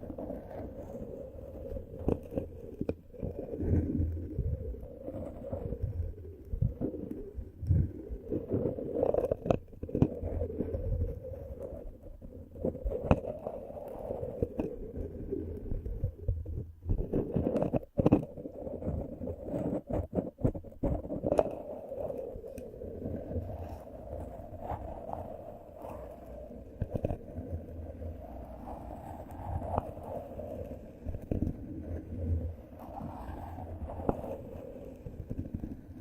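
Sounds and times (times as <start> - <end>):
scratching on microphone: 0.0 - 36.0.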